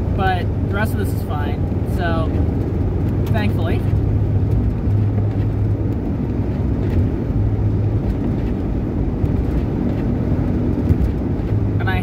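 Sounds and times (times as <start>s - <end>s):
car engine cruising: 0.0s - 12.0s
tyre and road noise: 0.0s - 12.0s.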